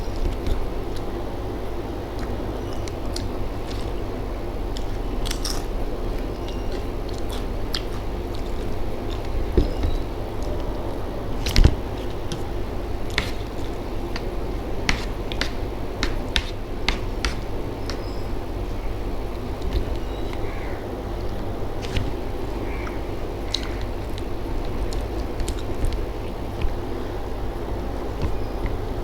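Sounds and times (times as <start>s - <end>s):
steady low hum: 0.0s - 29.0s
person chewing: 2.1s - 20.5s, 21.1s - 29.0s.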